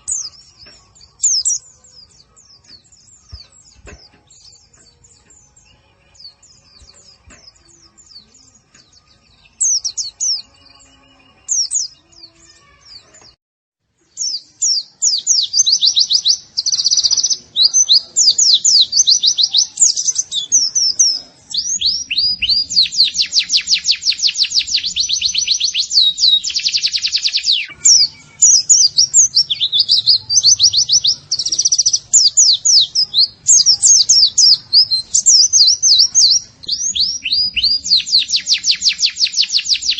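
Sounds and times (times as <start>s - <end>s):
bird twittering and trilling: 0.0s - 13.4s, 14.0s - 39.9s.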